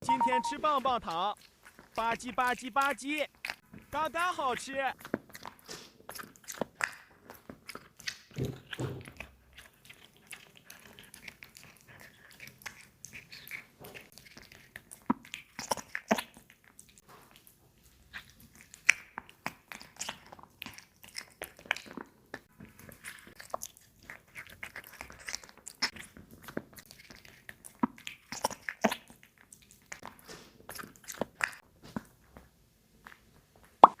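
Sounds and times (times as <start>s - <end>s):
cat crunching and chewing: 0.6s - 33.8s.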